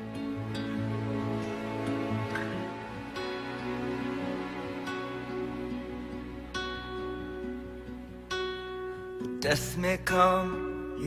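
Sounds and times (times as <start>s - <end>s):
slow sustained instrumental music: 0.0s - 11.0s.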